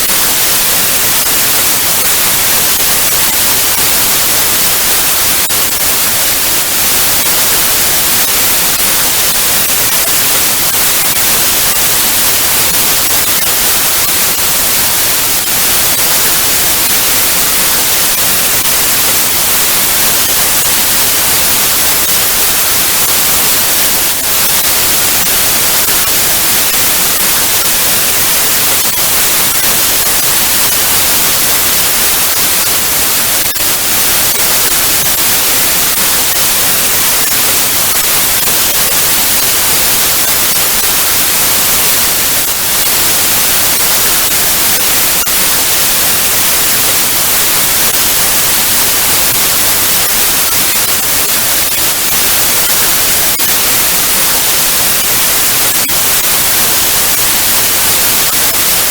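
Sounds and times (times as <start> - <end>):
television static hiss: 0.0 - 58.9.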